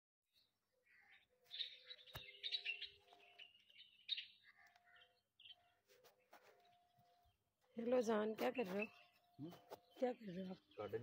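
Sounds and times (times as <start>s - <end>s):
small birds chirping: 0.3s - 11.0s.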